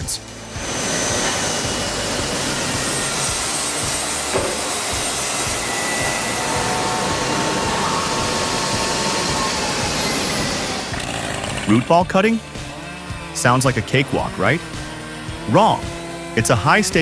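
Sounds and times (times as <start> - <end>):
loud machine hiss: 0.0 - 17.0.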